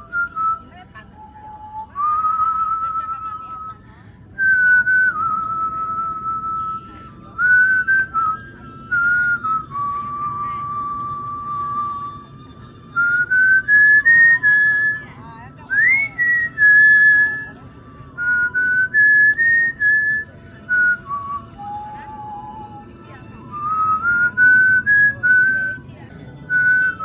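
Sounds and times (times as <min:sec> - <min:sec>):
person whistling a tune: 0:00.0 - 0:27.0.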